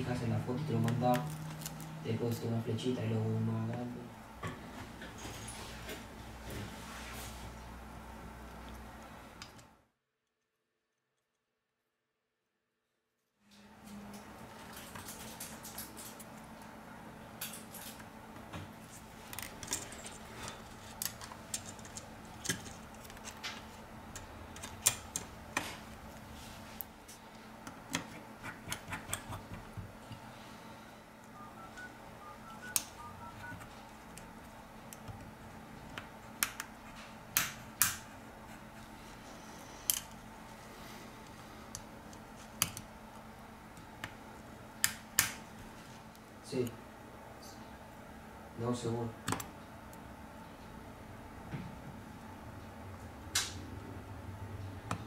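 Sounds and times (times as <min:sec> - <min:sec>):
faint steady hum: 0:00.0 - 0:10.0, 0:13.2 - 0:55.0.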